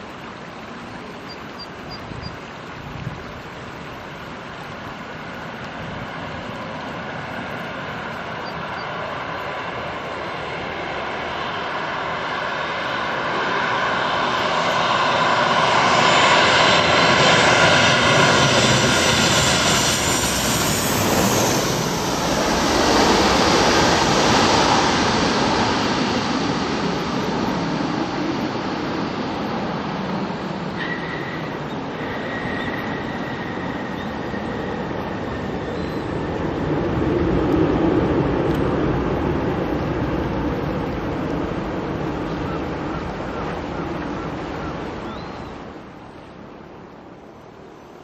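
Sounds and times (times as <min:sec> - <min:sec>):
jet engine roar with whine: 0:00.0 - 0:48.0.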